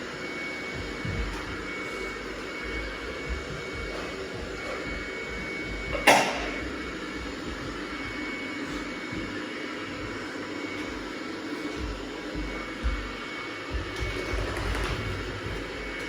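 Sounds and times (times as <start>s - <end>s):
robot vacuum cleaner humming: 0.0s - 16.0s.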